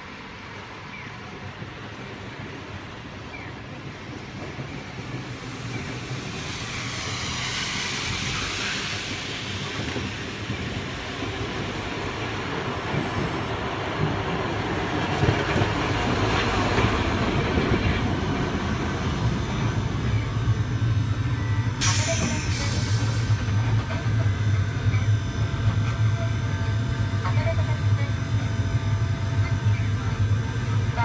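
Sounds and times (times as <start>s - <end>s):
streetcar running on rails: 0.0s - 31.0s.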